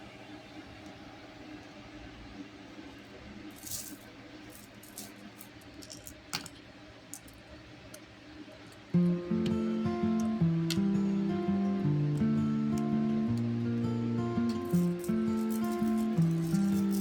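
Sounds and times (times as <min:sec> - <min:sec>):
low room background: 0:00.0 - 0:17.0.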